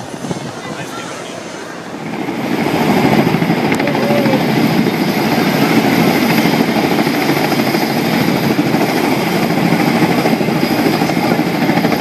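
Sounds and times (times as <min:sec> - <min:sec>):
helicopter rotor and engine noise: 0:00.0 - 0:12.0.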